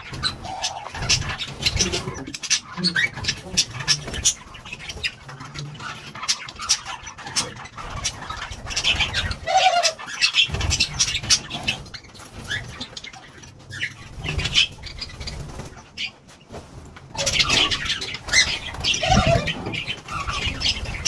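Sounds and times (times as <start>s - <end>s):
pigeons cooing: 0.0s - 16.0s, 17.2s - 21.0s
wings fluttering: 0.0s - 21.0s.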